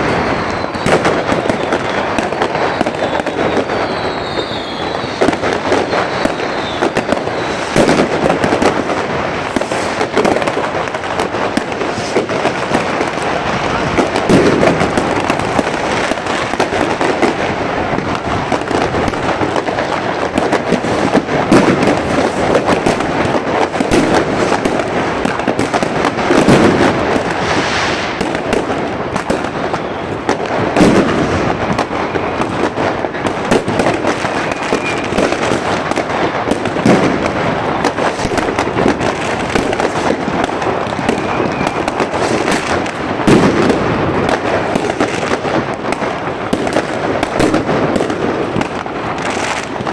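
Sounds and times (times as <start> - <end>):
deep firework booms: 0.0 - 49.9
fireworks crackling: 0.0 - 49.9.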